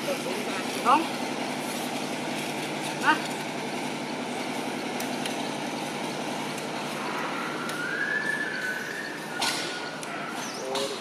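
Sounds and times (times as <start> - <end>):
motor vehicle noise: 0.0 - 11.0.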